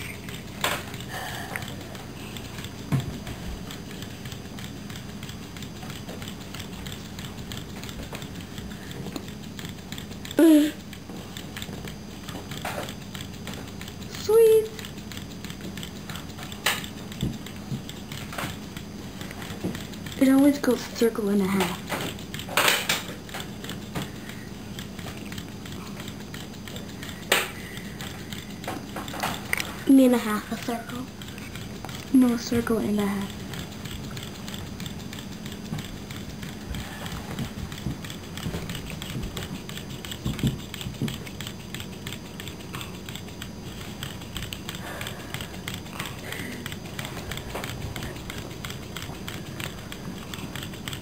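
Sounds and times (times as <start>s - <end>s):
small gearmotors ticking and whirring: 0.0s - 51.0s
small motor rapid clicking: 0.0s - 51.0s
steady low hum: 0.0s - 51.0s.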